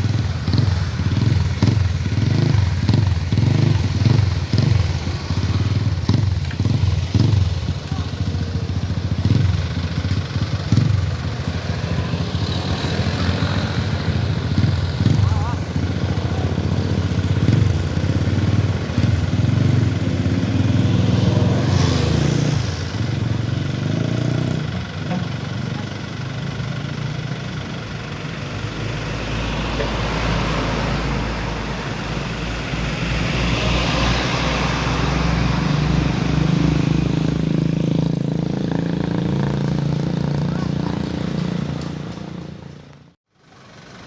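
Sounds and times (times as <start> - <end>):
heavy machinery diesel engine: 0.0 - 44.0.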